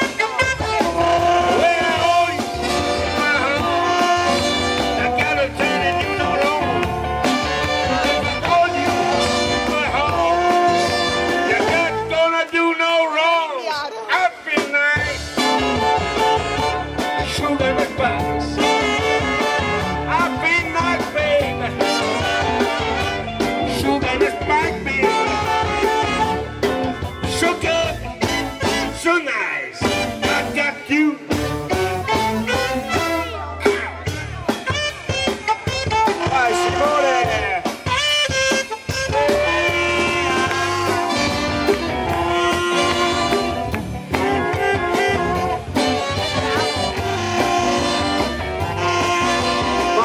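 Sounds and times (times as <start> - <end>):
steady beat: 0.0 - 12.3, 14.2 - 29.0, 29.8 - 50.0
trumpet and saxophones playing swing: 0.0 - 50.0.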